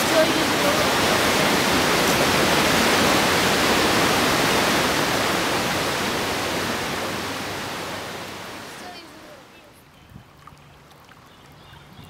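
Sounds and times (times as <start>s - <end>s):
creek water rushing over rapids: 0.0s - 12.0s.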